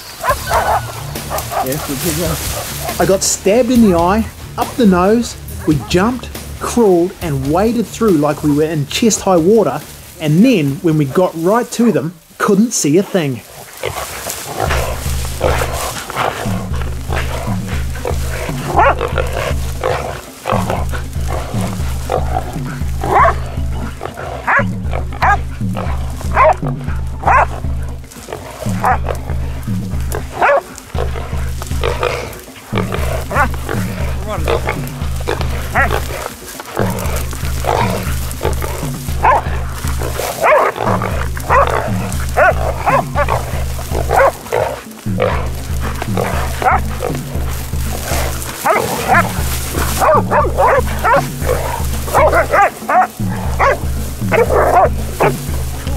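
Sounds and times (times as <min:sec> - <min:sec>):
background music with bass beat: 0:00.0 - 0:55.9
dogs barking: 0:00.0 - 0:55.9
wild pig squealing and grunting: 0:00.0 - 0:55.9.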